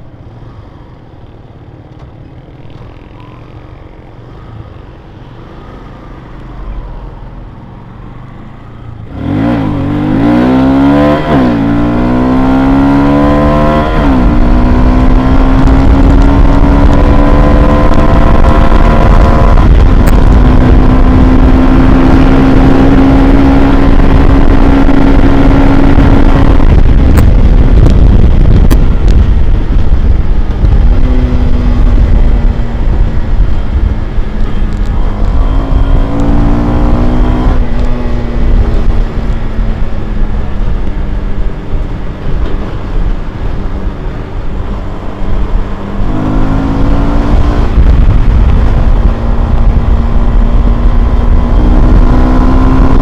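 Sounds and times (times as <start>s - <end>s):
motorcycle engine revving: 8.9s - 53.0s.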